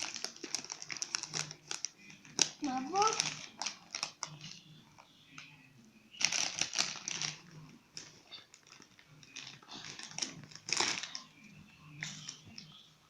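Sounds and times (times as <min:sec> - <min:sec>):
child eating crunchy snacks: 0:00.0 - 0:04.7, 0:06.2 - 0:12.7
snack packet crinkling: 0:00.0 - 0:05.1, 0:06.2 - 0:12.8.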